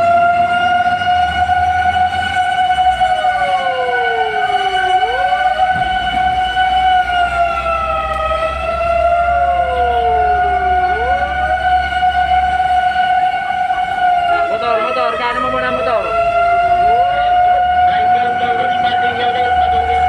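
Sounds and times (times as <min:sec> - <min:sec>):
sliding wailing siren: 0:00.0 - 0:20.0
steady high siren: 0:00.0 - 0:20.0.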